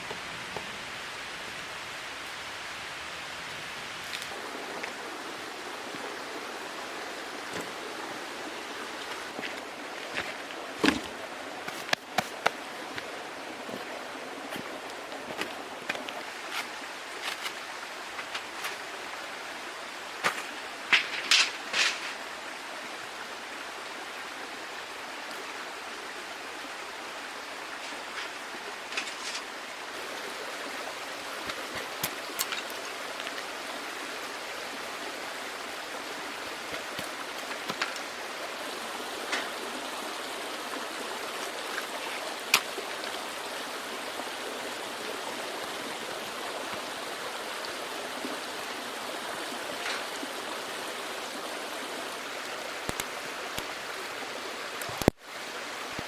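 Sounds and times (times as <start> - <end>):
creek babbling: 0.0 - 56.0.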